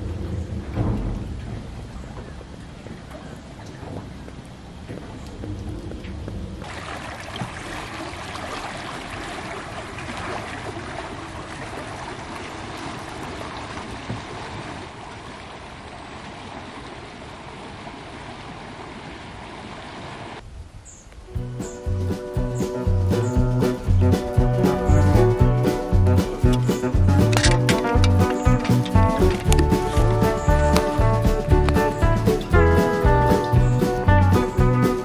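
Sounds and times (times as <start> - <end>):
rushing water: 0.0 - 20.4, 21.3 - 35.0
wind: 0.0 - 35.0.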